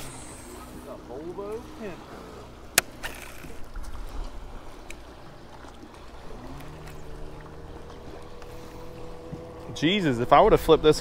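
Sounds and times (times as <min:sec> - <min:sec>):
boat motor humming: 0:00.0 - 0:11.0
wind and water rumble: 0:00.0 - 0:11.0.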